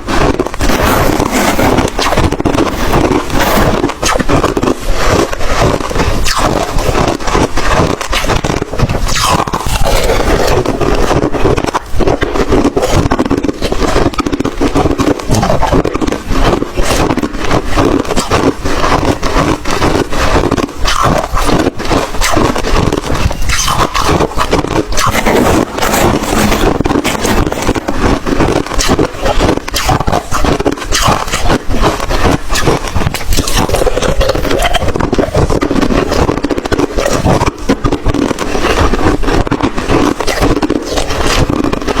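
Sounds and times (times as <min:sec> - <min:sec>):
ice crunching while chewed: 0:00.0 - 0:42.0.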